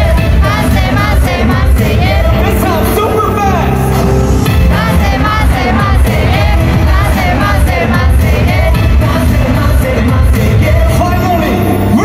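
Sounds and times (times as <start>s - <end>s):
live pop music with group singing: 0.0s - 12.0s.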